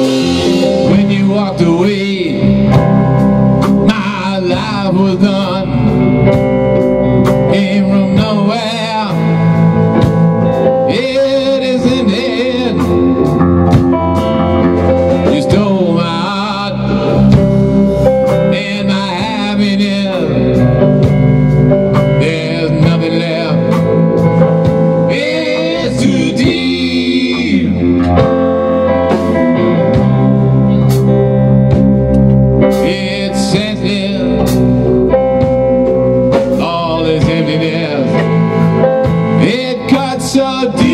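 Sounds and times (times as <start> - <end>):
bending lead guitar lines: 0.0 - 40.9
live rock band: 0.0 - 40.9.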